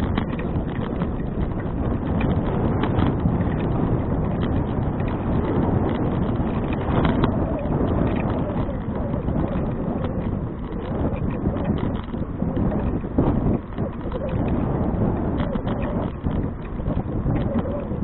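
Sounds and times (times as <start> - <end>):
small clicks and rattles: 0.0 - 18.0
wind and road noise: 0.0 - 18.0.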